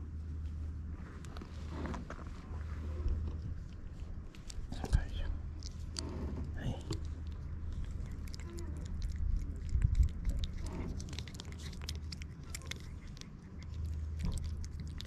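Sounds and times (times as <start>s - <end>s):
low rumble: 0.0s - 15.0s
cat licking and lapping: 2.8s - 15.0s.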